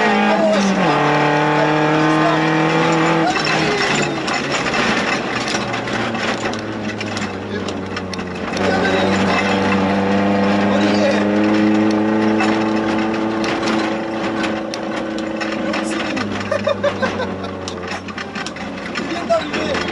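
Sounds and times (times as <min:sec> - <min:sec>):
car clicks and knocks: 0:00.0 - 0:19.9
car engine pulling hard: 0:00.0 - 0:19.9.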